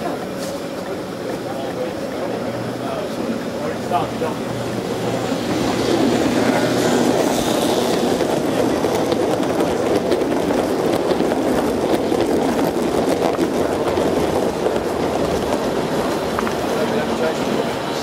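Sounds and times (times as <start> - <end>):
model train wheels rumbling: 0.0 - 18.0.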